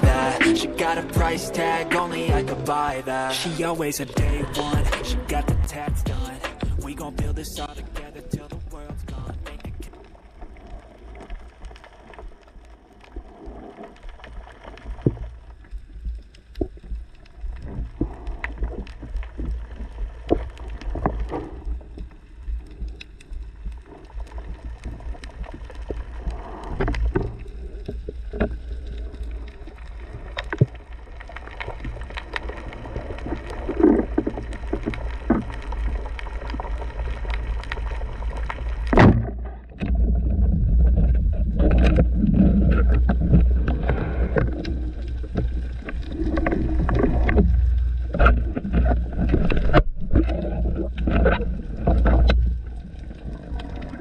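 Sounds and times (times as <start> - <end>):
low underwater rumble: 0.0 - 54.0.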